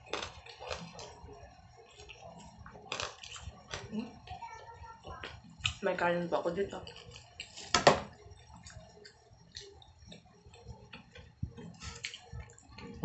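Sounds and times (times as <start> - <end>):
chewing and lip-smacking: 0.0 - 4.4, 5.1 - 5.8, 6.8 - 13.0
person eating by hand: 0.0 - 5.8, 6.8 - 13.0.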